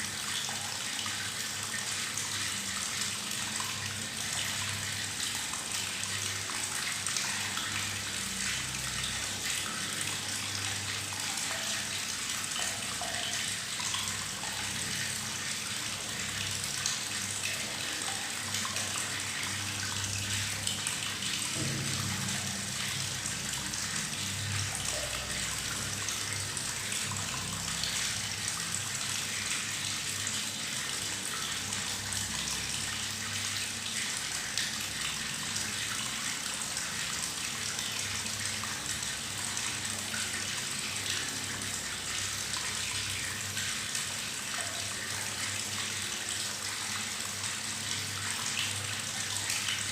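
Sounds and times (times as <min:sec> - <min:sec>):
tap water running into bathtub: 0:00.0 - 0:49.9.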